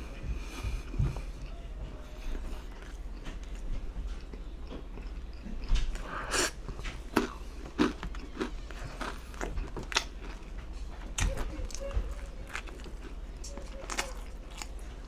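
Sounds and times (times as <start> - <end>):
faint low hum: 0.0 - 15.0
chewing with wet mouth clicks: 2.4 - 15.0.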